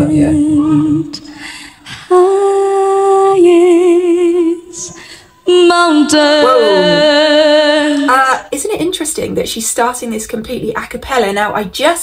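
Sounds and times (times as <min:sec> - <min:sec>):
woman singing a cappella: 0:00.0 - 0:12.0.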